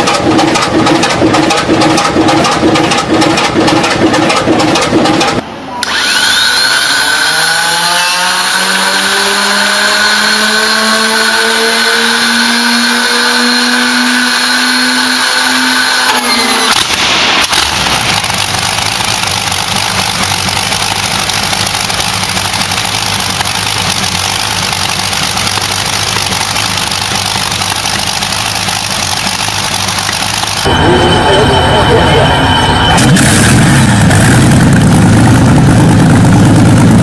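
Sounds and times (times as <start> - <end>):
engine catching and running: 0.0 - 37.0
engine starting whine: 0.0 - 37.0.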